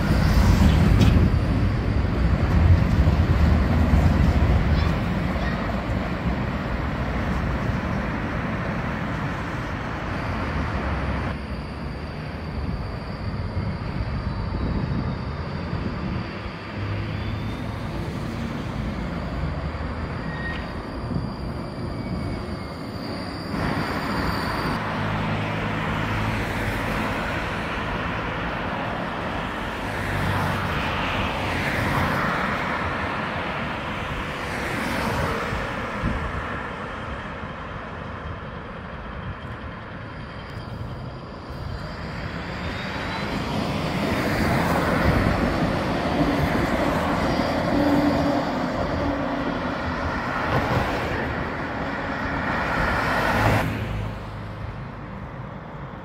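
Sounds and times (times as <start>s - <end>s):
passing car traffic: 0.0s - 22.2s, 22.9s - 56.0s
rising and falling whines: 0.0s - 54.8s
trams running on street track: 0.0s - 56.0s.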